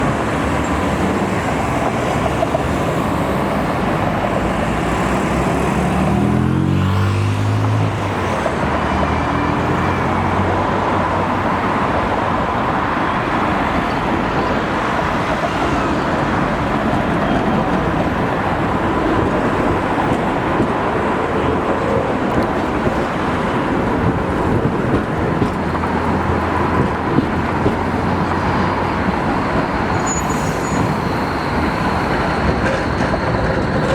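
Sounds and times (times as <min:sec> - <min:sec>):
road traffic: 0:00.0 - 0:33.9.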